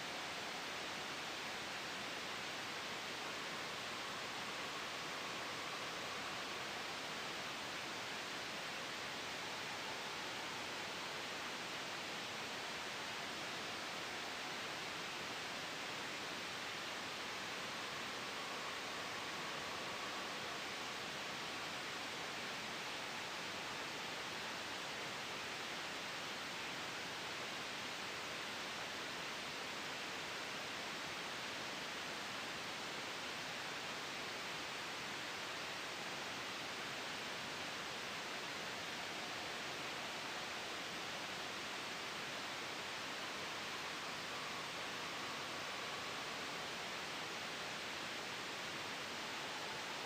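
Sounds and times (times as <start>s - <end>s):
steady white noise hiss: 0.0s - 50.0s.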